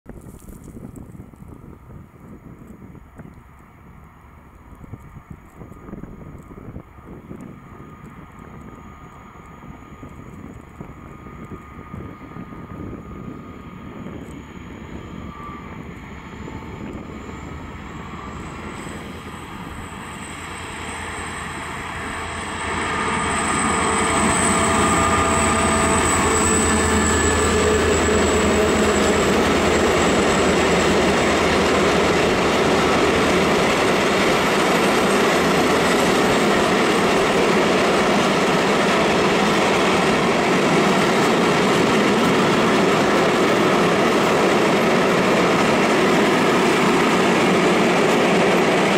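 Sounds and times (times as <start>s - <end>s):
locomotive engine hum: 0.1s - 48.9s
train wheels rumbling on rails: 0.1s - 48.9s.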